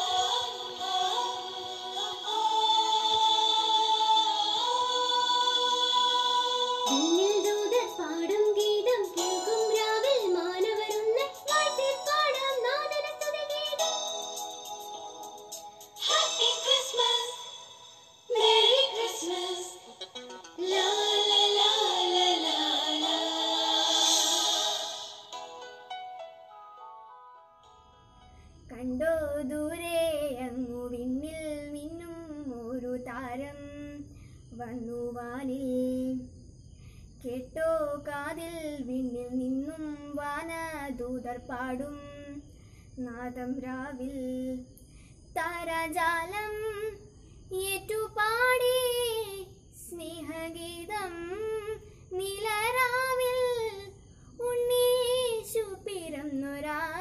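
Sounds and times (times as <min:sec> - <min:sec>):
child singing: 0:00.0 - 0:14.1, 0:16.0 - 0:17.5, 0:18.3 - 0:19.9, 0:20.6 - 0:23.7, 0:28.7 - 0:36.3, 0:37.2 - 0:42.4, 0:43.0 - 0:44.7, 0:45.4 - 0:57.0.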